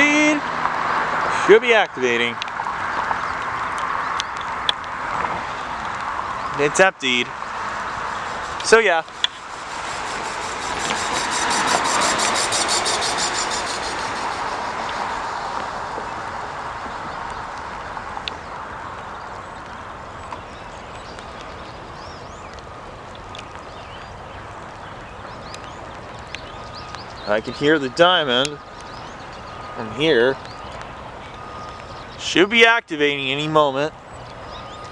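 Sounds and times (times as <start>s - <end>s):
road vehicle passing: 0.0s - 34.9s.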